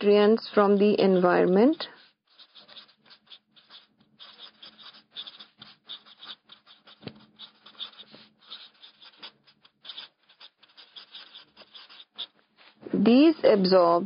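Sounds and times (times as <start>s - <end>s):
marker pen scratching: 0.1s - 14.0s.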